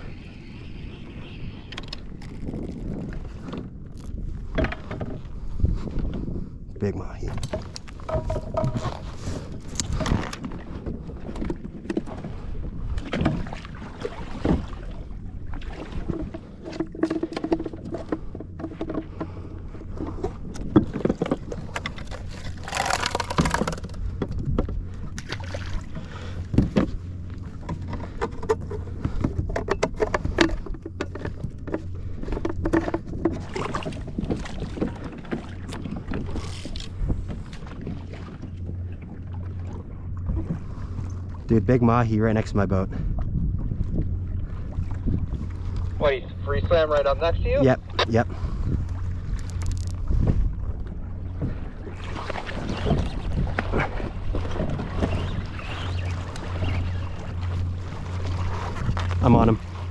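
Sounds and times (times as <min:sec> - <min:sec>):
water lapping against hull: 0:00.0 - 0:59.9.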